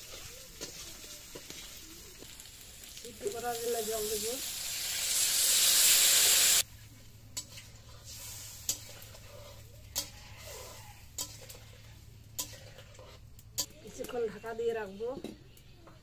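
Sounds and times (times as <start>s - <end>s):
curry sizzling faintly: 0.0s - 16.0s.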